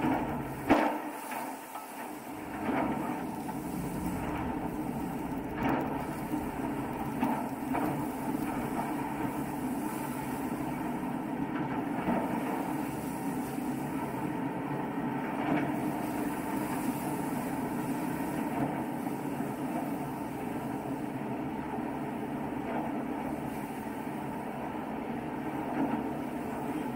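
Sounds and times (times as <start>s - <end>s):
boat engines droning: 0.0s - 26.9s
water rushing along hull: 0.0s - 26.9s.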